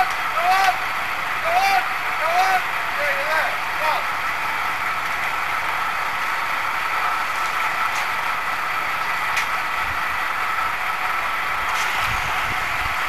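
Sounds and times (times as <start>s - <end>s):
engine running with high whine: 0.0s - 13.0s.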